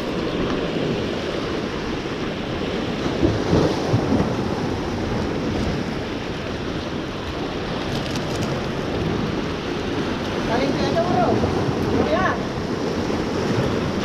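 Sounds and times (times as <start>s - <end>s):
sea surf against rocks: 0.0s - 14.0s
wind on microphone: 0.0s - 14.0s.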